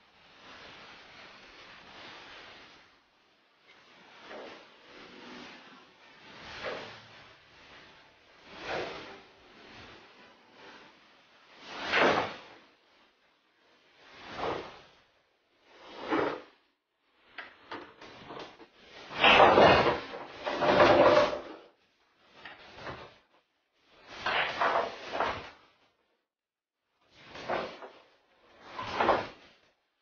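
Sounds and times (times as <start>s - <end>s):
pool balls knocking and rolling: 0.2s - 25.8s, 27.1s - 29.6s.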